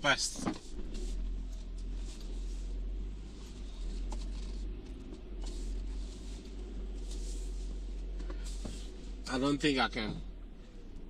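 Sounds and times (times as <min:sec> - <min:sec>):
car engine rumble from cabin: 0:00.0 - 0:11.0.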